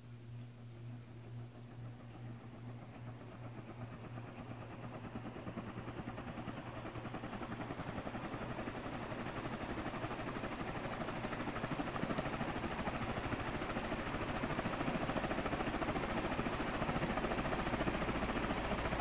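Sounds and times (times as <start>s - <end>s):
fan motor hum: 0.0s - 19.0s
fan blades whooshing: 0.8s - 19.0s.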